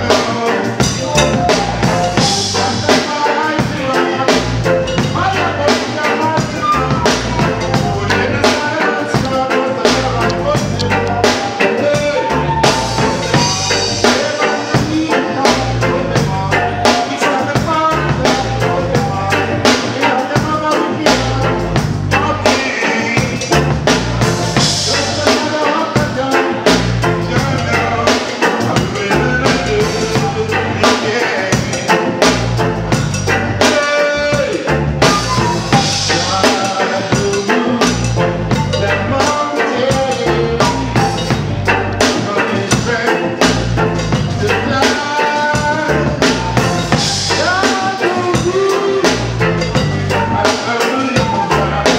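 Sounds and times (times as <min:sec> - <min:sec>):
drum kit beat: 0:00.0 - 0:51.9
electric guitar: 0:00.0 - 0:51.9
man singing into microphone: 0:00.0 - 0:51.9.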